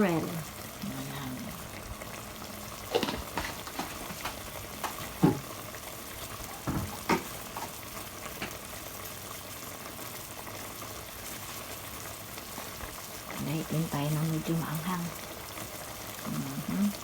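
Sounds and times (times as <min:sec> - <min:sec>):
pan bubbling and sizzling: 0:00.0 - 0:17.0.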